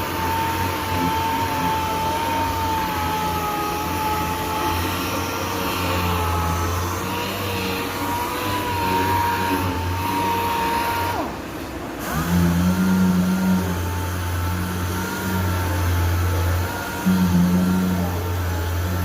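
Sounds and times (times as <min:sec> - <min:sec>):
machine sander running: 0:00.0 - 0:19.0.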